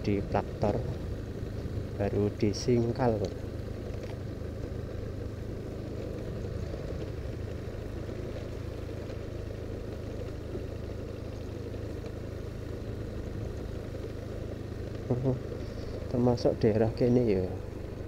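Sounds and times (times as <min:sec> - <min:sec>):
road and wind noise: 0:00.0 - 0:18.0
vehicle engine cruising: 0:00.0 - 0:18.0.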